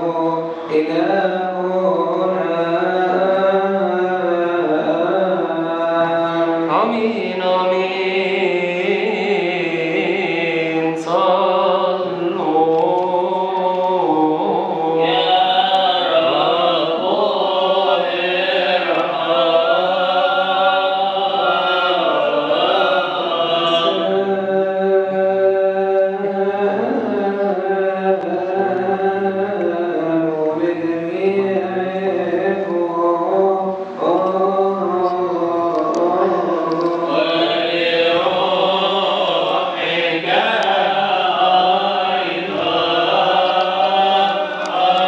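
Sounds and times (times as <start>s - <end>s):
man singing a chant: 0.0s - 45.0s.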